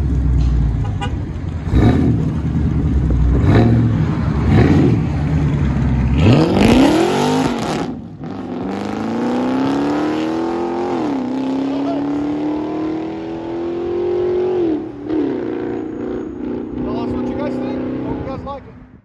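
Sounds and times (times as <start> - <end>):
car engine rumbling and accelerating: 0.0 - 19.0.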